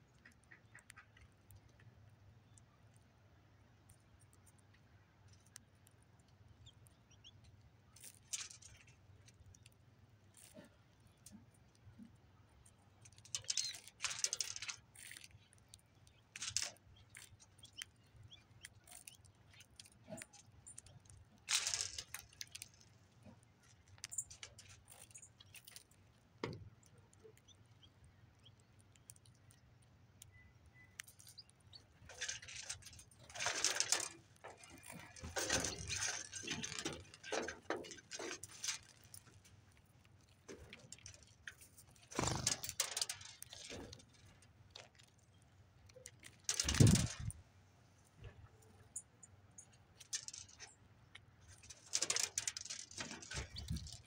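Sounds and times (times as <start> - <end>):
birds pecking seed rattling: 0.1 - 47.4, 48.0 - 54.0.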